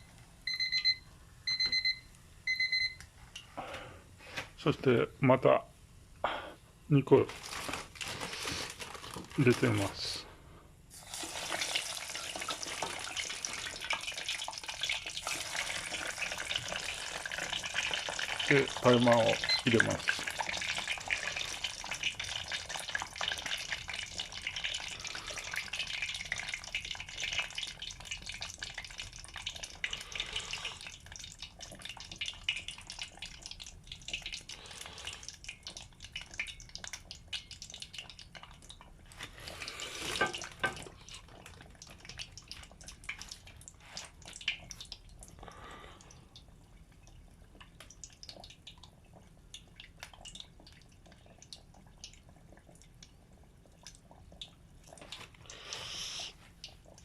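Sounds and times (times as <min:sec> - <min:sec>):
food deep-frying in oil: 0:07.1 - 0:10.1, 0:10.9 - 0:57.0.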